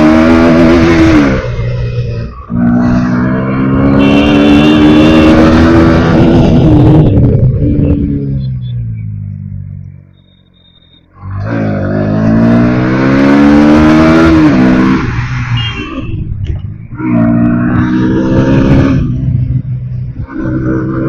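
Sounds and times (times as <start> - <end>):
motorcycle engine revving: 0.0 - 9.7, 11.0 - 21.0.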